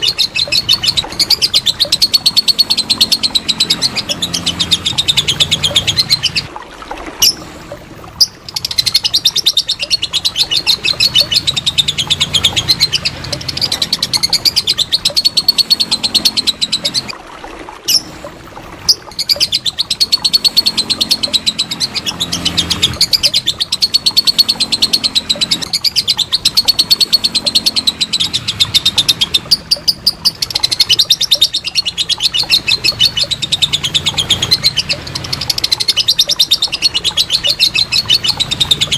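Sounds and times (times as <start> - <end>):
lovebird singing: 0.0 - 6.5, 8.2 - 17.1, 17.9 - 18.1, 18.9 - 38.9.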